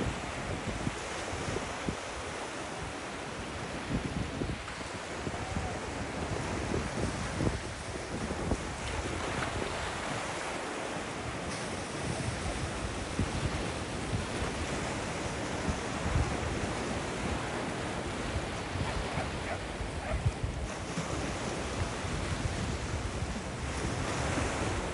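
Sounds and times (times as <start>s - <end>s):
ocean surf breaking on beach: 0.0s - 24.9s
wind buffeting microphone: 0.0s - 24.9s.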